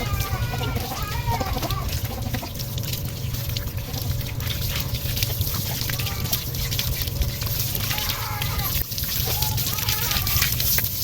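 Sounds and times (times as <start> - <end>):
water running and splashing: 0.0 - 11.0.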